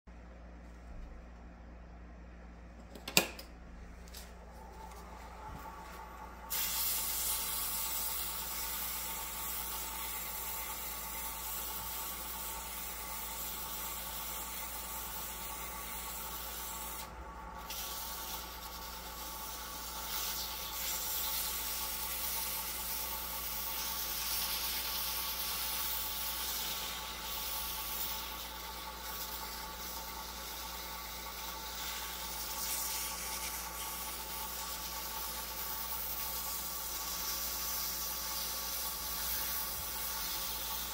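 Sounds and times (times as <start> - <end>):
sandpaper hissing on spinning wood: 6.4 - 40.9.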